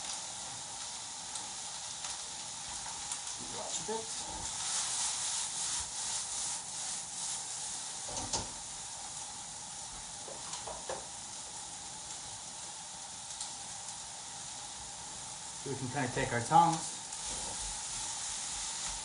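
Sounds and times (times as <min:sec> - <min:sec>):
vegetables sizzling in a pan: 0:00.0 - 0:19.0.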